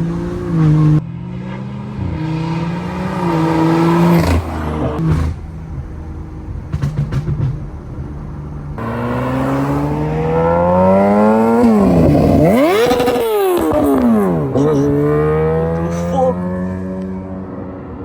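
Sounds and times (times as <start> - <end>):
car engine accelerating through gears: 0.0 - 18.0.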